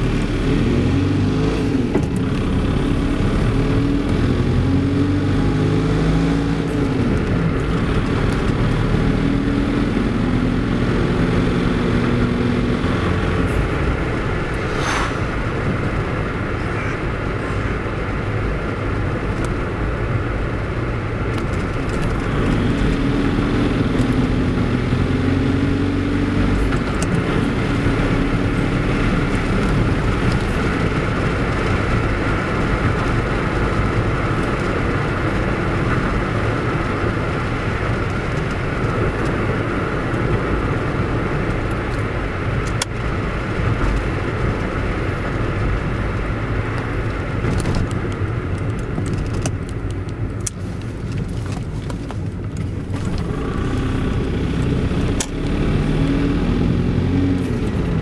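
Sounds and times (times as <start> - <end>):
diesel engine running: 0.0 - 58.0
tyre and road noise: 0.0 - 58.0.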